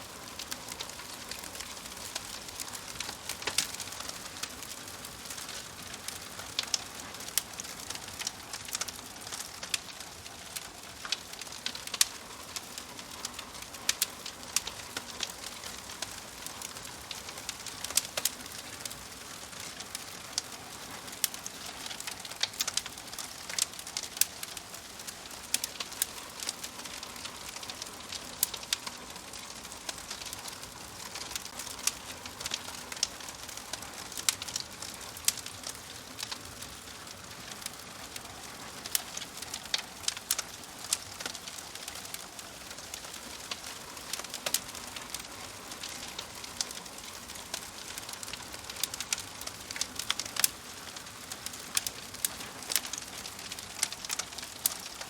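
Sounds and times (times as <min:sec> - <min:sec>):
fire hissing: 0:00.0 - 0:55.0
wood fire crackling and popping: 0:00.0 - 0:55.0.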